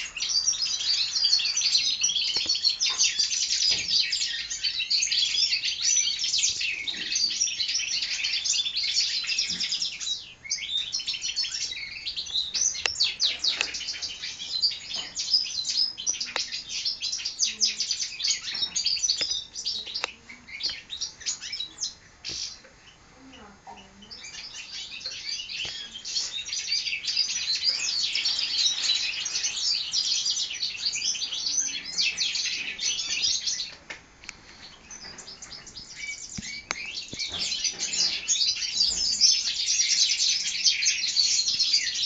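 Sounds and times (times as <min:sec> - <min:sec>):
finches twittering song: 0:00.0 - 0:42.0.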